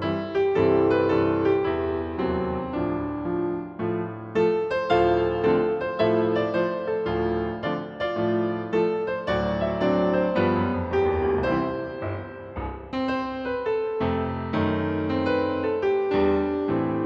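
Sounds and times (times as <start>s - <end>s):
gentle piano tune: 0.0s - 17.0s.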